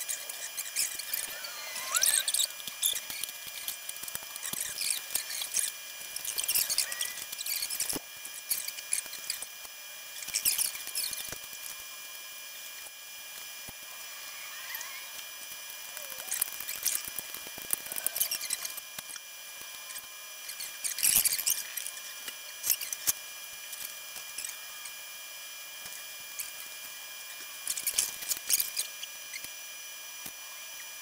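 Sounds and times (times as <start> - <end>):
faint high hum: 0.0 - 31.0.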